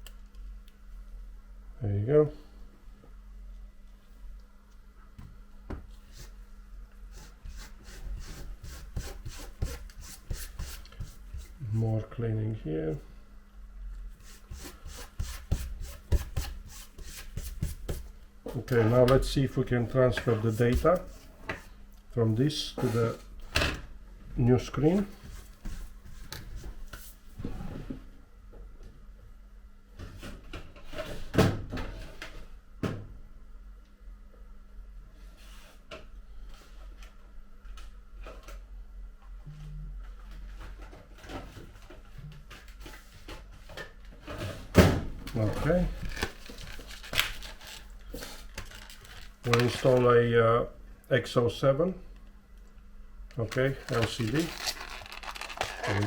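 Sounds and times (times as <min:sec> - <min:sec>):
faint steady hum: 0:00.0 - 0:30.9, 0:31.6 - 0:56.0.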